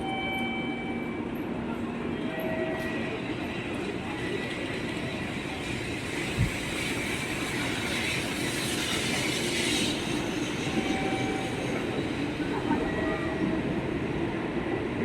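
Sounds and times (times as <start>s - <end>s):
train rumble and rush: 0.0s - 15.0s.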